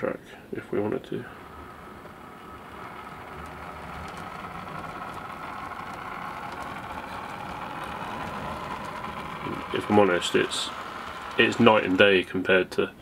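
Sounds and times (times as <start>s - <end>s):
model train motor hum: 0.6s - 12.8s
wheels ticking over rail joints: 0.6s - 12.8s.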